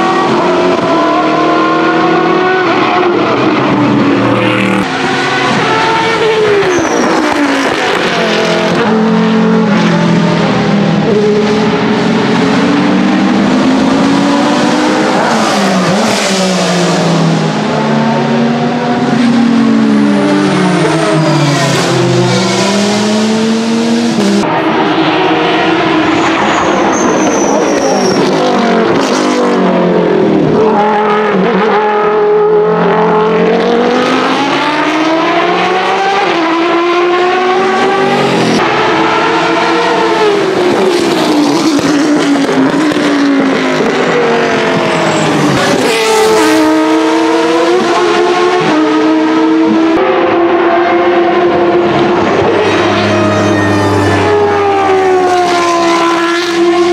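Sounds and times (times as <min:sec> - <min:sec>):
other race car engines: 0:00.0 - 0:56.9
racing car engine revving: 0:00.0 - 0:56.9.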